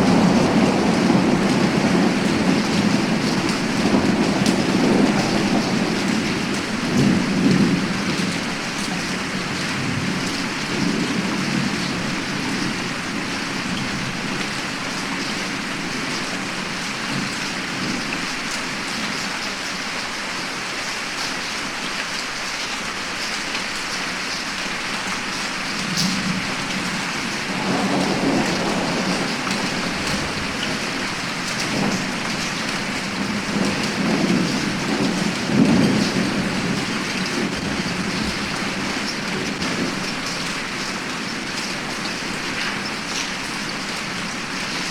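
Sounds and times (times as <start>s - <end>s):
thunder rumbling: 0.0s - 18.0s, 25.7s - 44.9s
heavy rain falling: 0.0s - 44.9s.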